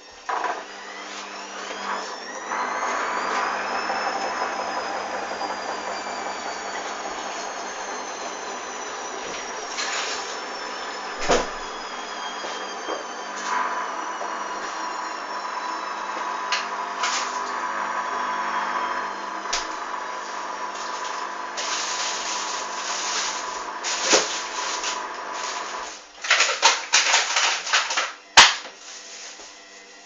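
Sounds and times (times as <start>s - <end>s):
washing machine motor hum: 0.0s - 30.0s.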